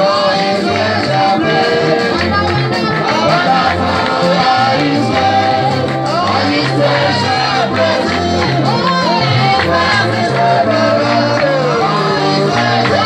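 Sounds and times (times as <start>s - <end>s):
church dance music with singing: 0.0s - 13.0s
stepping bass line: 0.0s - 13.0s.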